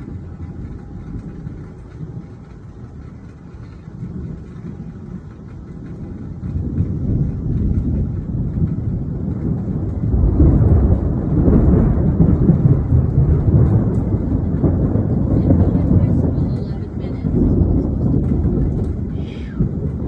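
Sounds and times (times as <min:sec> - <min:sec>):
thunder rumble: 0:00.0 - 0:20.0.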